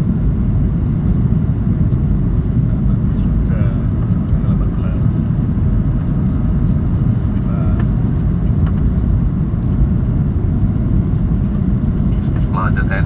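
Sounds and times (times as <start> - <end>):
aeroplane engines rumbling: 0.0 - 13.0.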